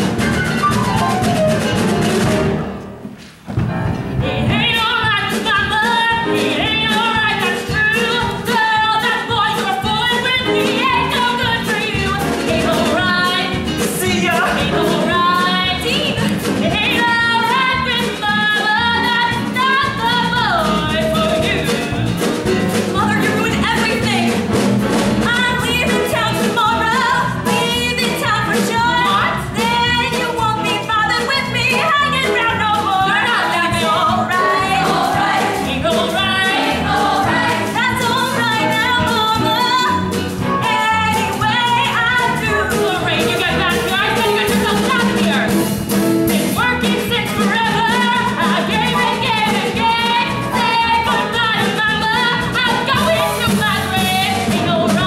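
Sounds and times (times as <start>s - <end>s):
instrumental accompaniment: 0.0s - 55.0s.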